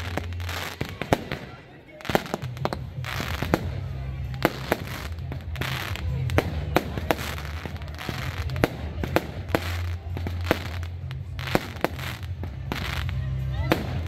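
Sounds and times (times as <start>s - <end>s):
fireworks bangs and pops: 0.0s - 14.0s.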